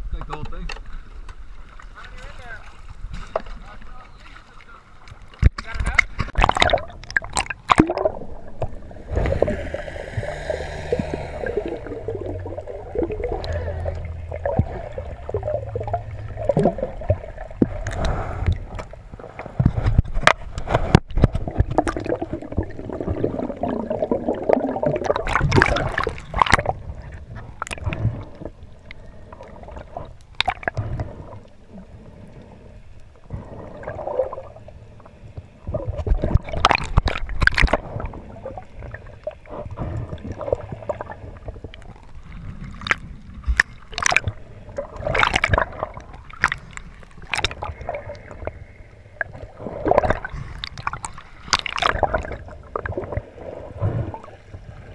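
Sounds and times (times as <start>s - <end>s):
water gurgling and sloshing: 0.0s - 54.9s.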